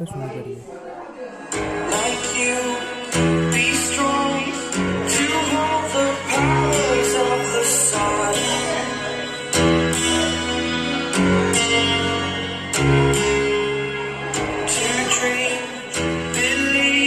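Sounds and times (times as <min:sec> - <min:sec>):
pop song over a speaker: 0:00.0 - 0:17.0.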